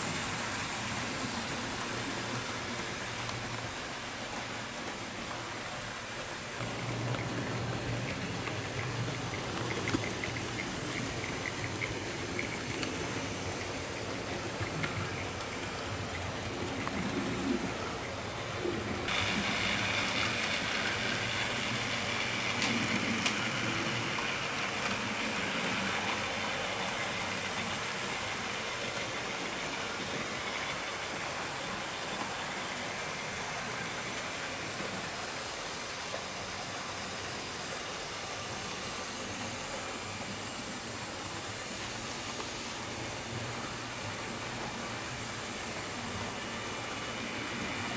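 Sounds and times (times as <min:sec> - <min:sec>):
model trains rolling: 0:00.0 - 0:47.9.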